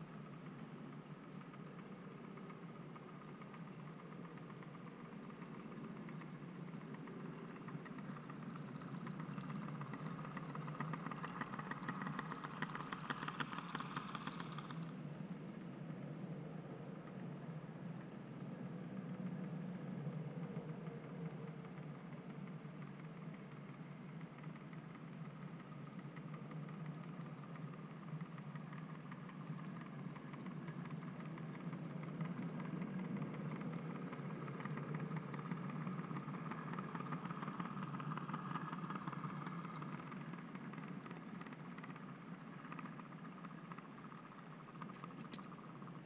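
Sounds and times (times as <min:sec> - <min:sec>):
model train wheel rumble: 0:00.0 - 0:15.1, 0:18.9 - 0:46.0
model train motor hum: 0:00.0 - 0:17.2, 0:18.6 - 0:46.0.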